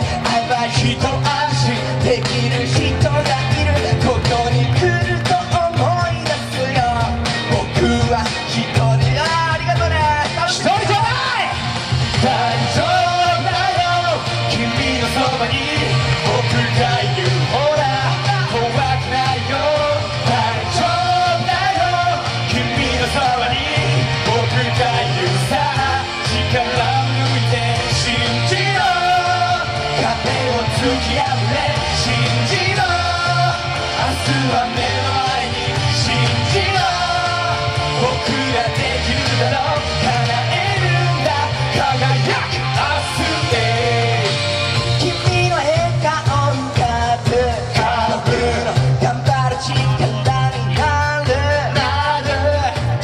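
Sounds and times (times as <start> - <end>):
men singing into microphones: 0.0 - 53.0
pop backing music with beat: 0.0 - 53.0.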